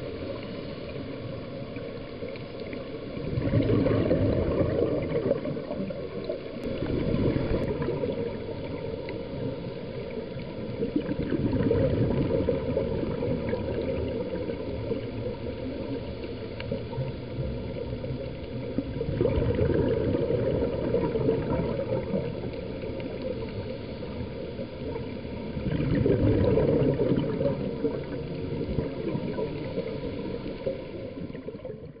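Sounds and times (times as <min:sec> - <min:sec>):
low wash of water: 0:00.0 - 0:32.0
underwater breath bubbling: 0:00.0 - 0:32.0.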